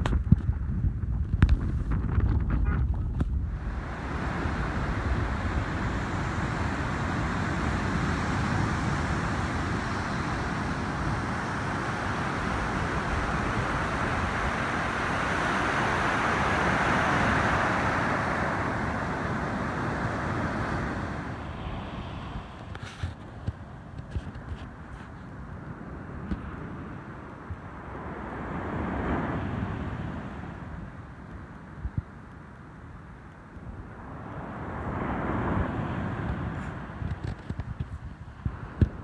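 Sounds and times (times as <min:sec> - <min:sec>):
wind rumbling on microphone: 0:00.0 - 0:39.0
surf washing up a beach: 0:03.4 - 0:39.0.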